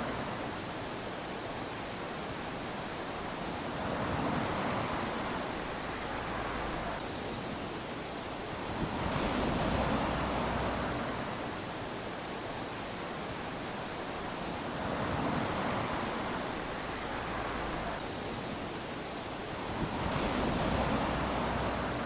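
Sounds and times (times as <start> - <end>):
small waves washing onto beach: 0.0 - 22.0.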